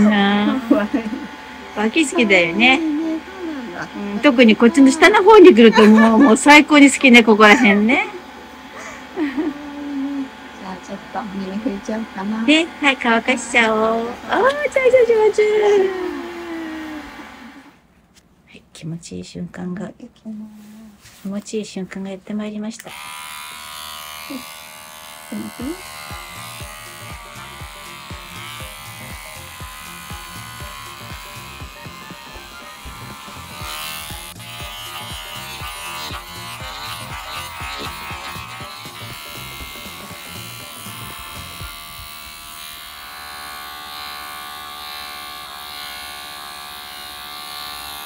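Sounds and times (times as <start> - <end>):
electric clipper running: 0.0 - 17.8, 22.8 - 48.0.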